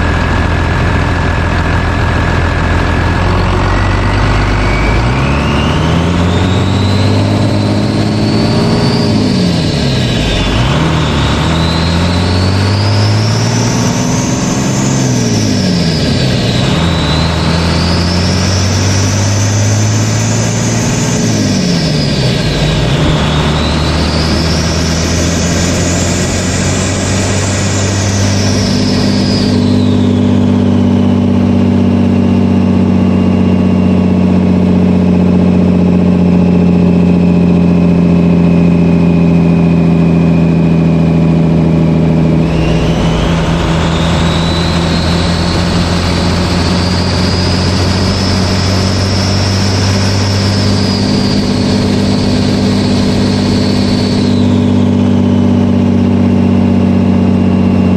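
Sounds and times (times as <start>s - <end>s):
diesel engine running: 0.0s - 57.9s
turbocharger whistle: 0.0s - 57.9s.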